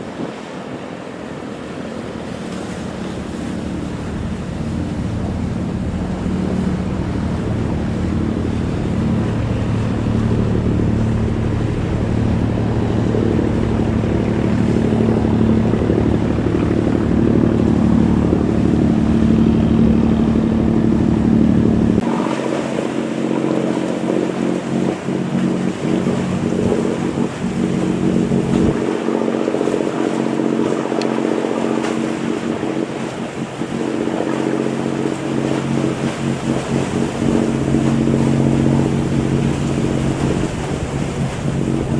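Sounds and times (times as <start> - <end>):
boat engine droning: 0.0 - 41.9
water noise: 0.0 - 41.9
wind: 0.0 - 41.9.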